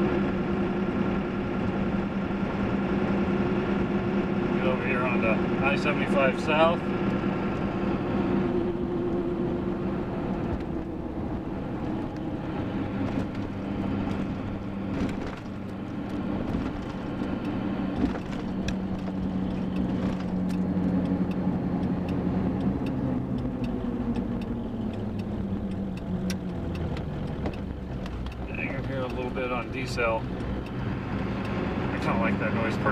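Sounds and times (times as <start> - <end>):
diesel engine drone: 0.0 - 32.9
road rumble: 0.0 - 32.9
tire hum: 0.0 - 32.9.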